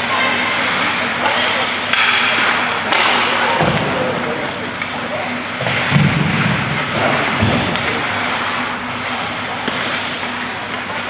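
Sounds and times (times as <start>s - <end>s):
hubbub of play and spectators: 0.0s - 11.0s.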